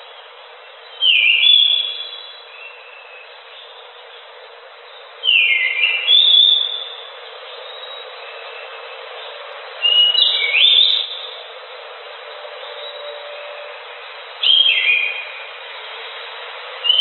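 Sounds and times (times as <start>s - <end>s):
steady hiss: 0.0s - 17.0s
thrush singing whistled notes: 0.0s - 17.0s.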